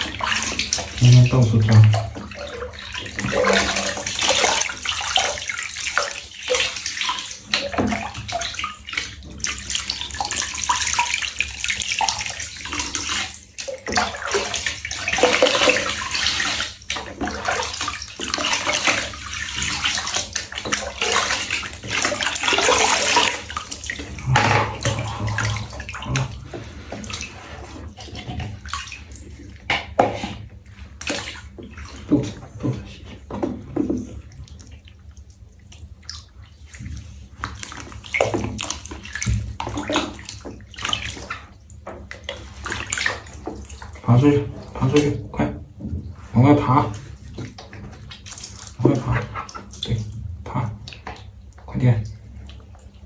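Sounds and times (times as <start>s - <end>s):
water running and splashing: 0.0s - 53.0s.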